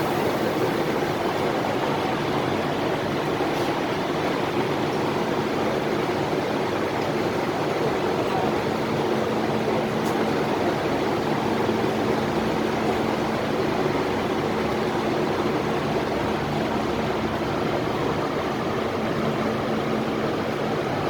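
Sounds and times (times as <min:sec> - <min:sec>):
train carriage rumble and hiss: 0:00.0 - 0:21.0.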